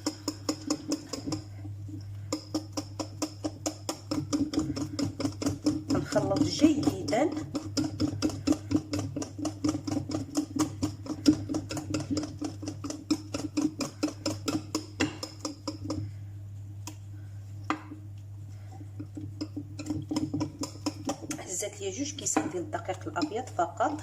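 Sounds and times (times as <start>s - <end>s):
utensil beating batter in bowl: 0.0s - 24.0s.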